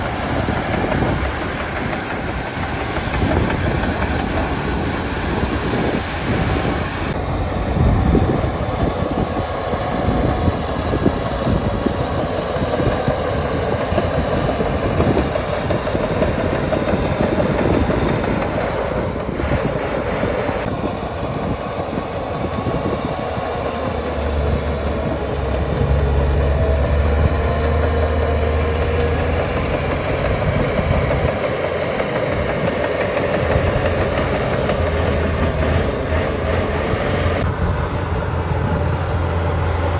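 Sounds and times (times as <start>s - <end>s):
steel tracks clanking: 0.0s - 37.5s
bulldozer diesel engine running: 0.0s - 39.9s
deep engine drone: 0.0s - 39.9s.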